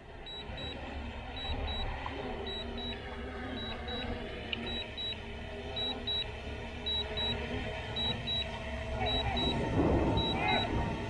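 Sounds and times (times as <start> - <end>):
steady low hum: 0.0 - 11.0
remote controller double beeps: 0.3 - 0.8, 1.4 - 6.3, 6.9 - 10.8.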